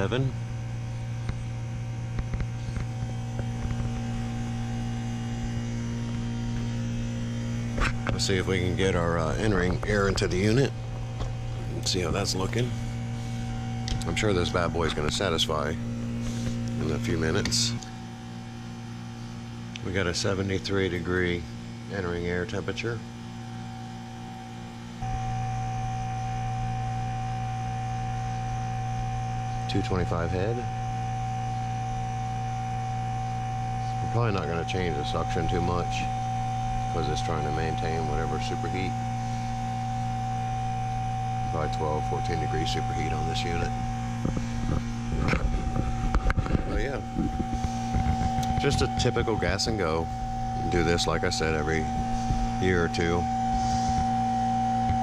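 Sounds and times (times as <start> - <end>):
heat pump humming: 0.0 - 55.0
thin high whine: 0.0 - 55.0.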